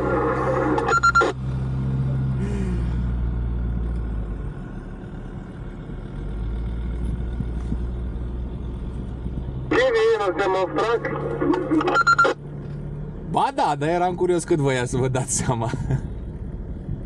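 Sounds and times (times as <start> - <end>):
car engine hum inside cabin: 0.0 - 17.0.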